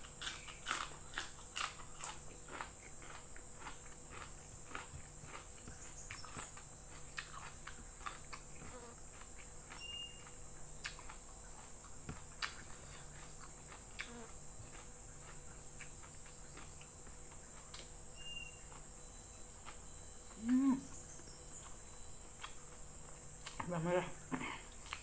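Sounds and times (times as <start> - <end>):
close chewing sounds: 0.0 - 25.0.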